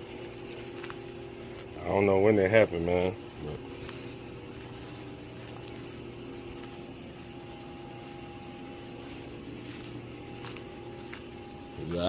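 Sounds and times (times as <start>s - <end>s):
faint held tones: 0.0s - 12.0s
mechanical hum: 0.0s - 12.0s.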